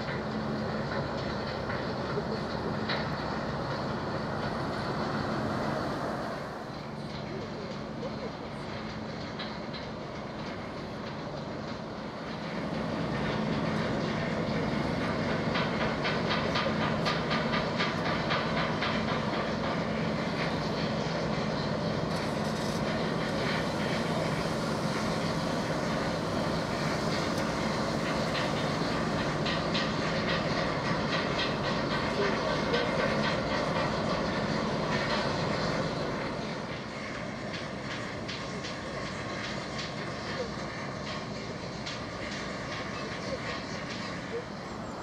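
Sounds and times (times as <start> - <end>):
ship engine drone: 0.0 - 45.0.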